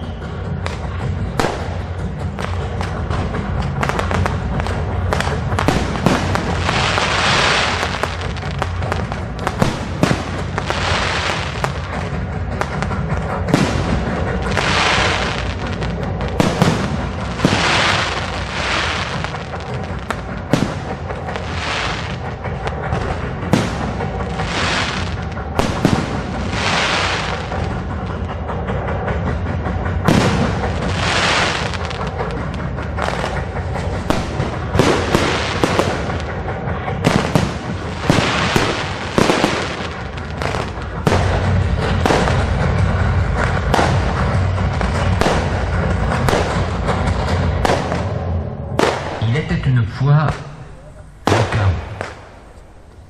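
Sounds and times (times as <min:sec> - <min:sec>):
fireworks hissing: 0:00.0 - 0:28.3, 0:30.0 - 0:48.2
fireworks bangs: 0:00.0 - 0:53.0.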